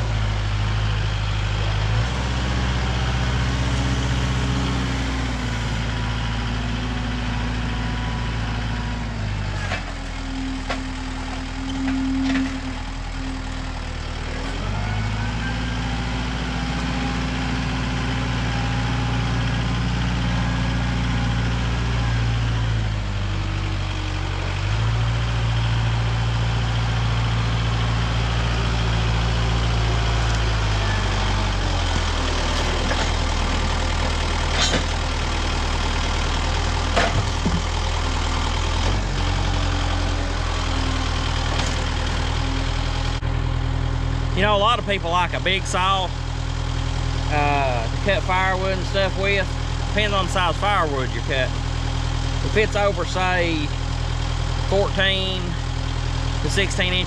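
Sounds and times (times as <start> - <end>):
heavy engine running: 0.0 - 57.0.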